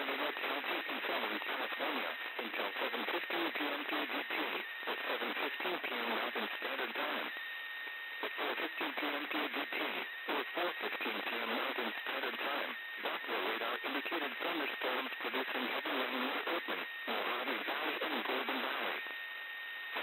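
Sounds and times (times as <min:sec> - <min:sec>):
voice reading over radio: 0:00.0 - 0:07.4, 0:08.2 - 0:19.1
radio static and hiss: 0:00.0 - 0:20.0.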